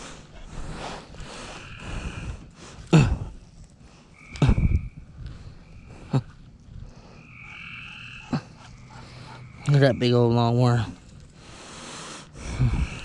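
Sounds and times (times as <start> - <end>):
frogs calling: 0.0 - 3.2, 3.9 - 13.0.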